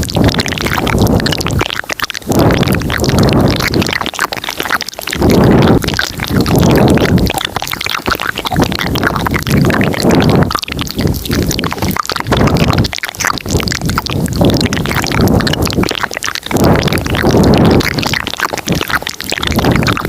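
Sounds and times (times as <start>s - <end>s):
wet mouth clicks and smacks: 0.0s - 20.0s.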